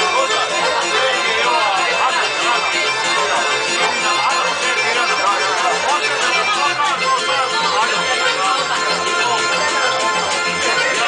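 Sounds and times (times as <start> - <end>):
folk dance music with keyboard: 0.0 - 11.0.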